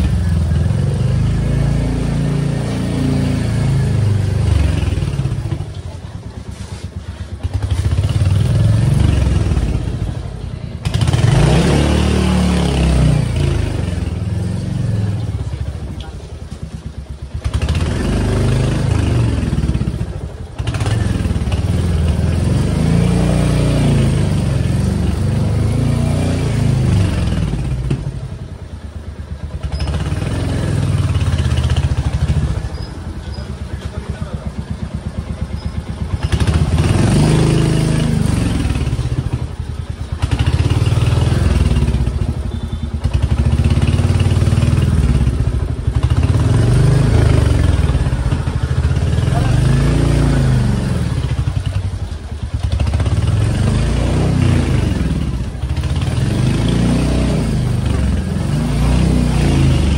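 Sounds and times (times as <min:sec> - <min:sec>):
small motorcycle engine: 0:00.0 - 0:59.9.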